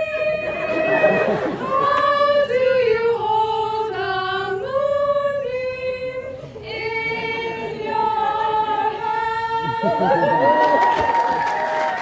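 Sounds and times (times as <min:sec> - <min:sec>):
women singing in harmony: 0:00.0 - 0:10.6.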